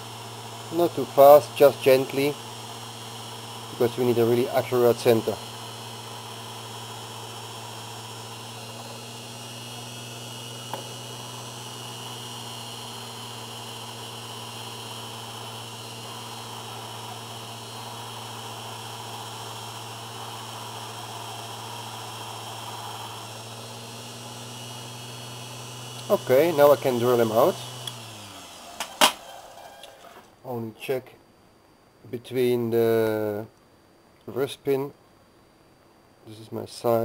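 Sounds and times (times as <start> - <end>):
lathe motor humming: 0.0 - 30.3.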